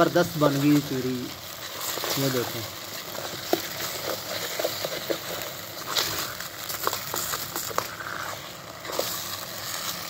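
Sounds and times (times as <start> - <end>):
food sizzling in pot: 0.0 - 10.0.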